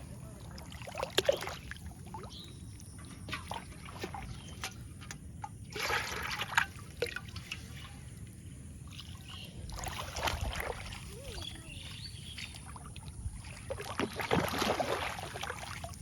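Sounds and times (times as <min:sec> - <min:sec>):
water splashing and dripping: 0:00.0 - 0:16.0.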